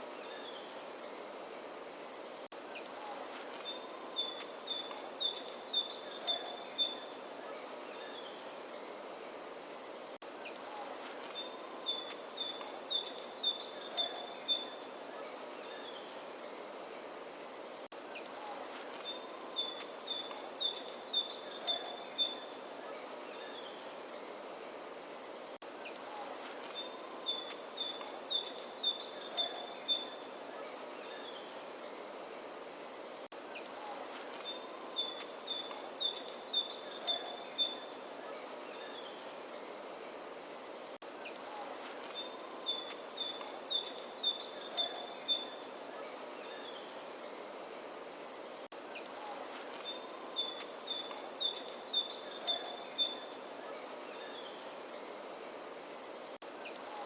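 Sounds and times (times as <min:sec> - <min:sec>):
songbird singing: 0:00.0 - 0:57.0
steady outdoor hiss: 0:00.0 - 0:57.0.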